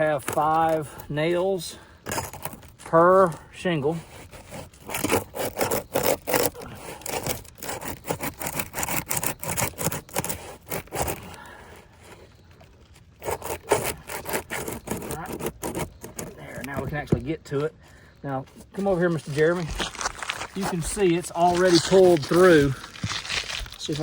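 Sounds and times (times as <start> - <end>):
roof shingles scraping: 0.0 - 24.0.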